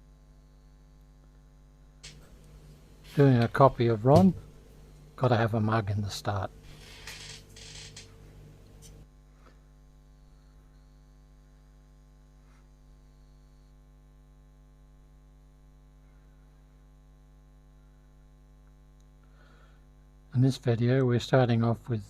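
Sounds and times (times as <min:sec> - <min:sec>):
faint mains hum: 0:00.0 - 0:22.0.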